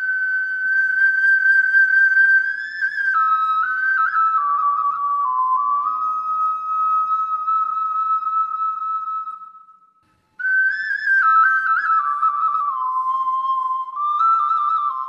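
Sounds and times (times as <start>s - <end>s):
ocarina melody: 0.0s - 15.0s.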